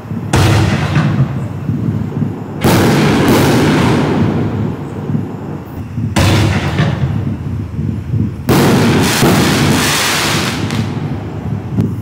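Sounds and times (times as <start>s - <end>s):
firework bang with rumble: 0.3s - 7.5s, 8.5s - 11.8s.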